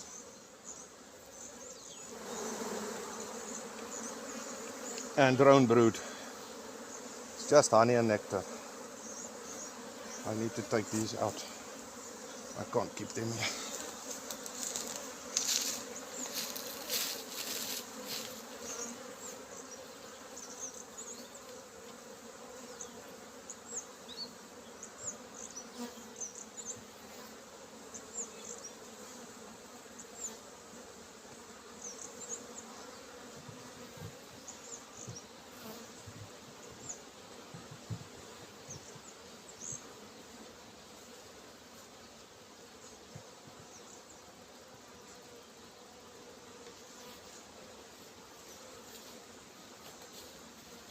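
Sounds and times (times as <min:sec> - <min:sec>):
honeybees buzzing: 0:00.0 - 0:50.9.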